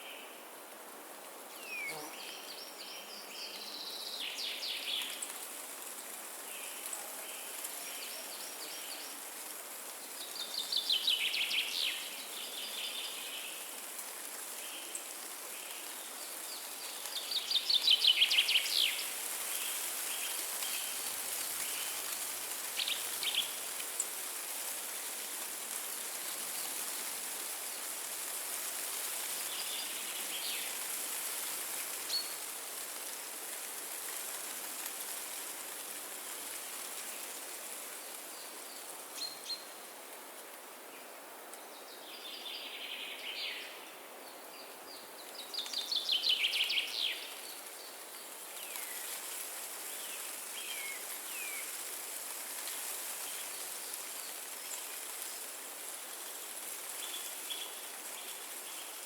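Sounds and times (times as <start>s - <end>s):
wind through trees: 0.0s - 59.0s.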